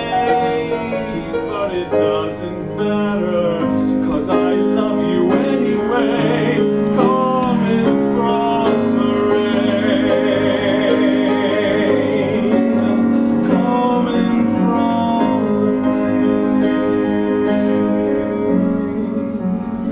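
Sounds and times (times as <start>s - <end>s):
instrumental accompaniment: 0.0s - 19.9s
man singing a slow ballad: 0.0s - 19.9s.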